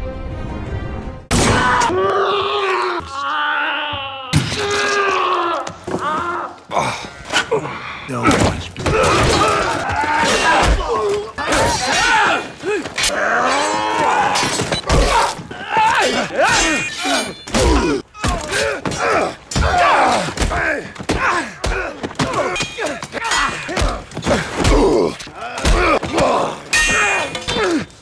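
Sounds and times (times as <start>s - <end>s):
people grunting and groaning: 1.4s - 28.0s.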